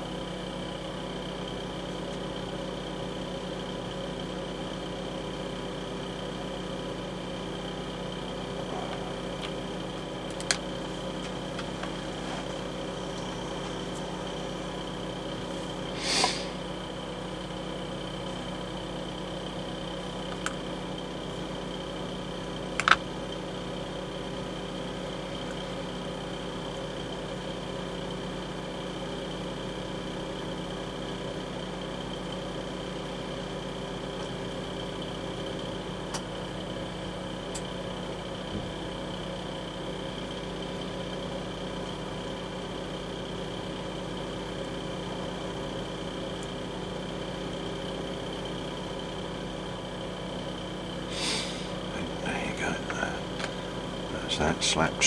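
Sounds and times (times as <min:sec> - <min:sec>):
steady workshop hum: 0:00.0 - 0:55.0.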